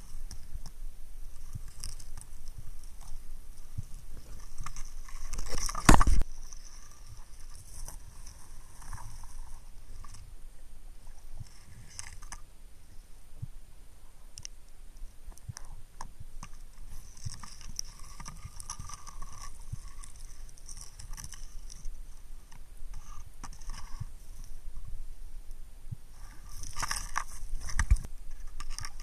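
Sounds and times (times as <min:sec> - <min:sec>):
underwater clicks and crackles: 0:00.0 - 0:10.3, 0:11.0 - 0:12.5, 0:14.3 - 0:24.6, 0:26.2 - 0:29.0.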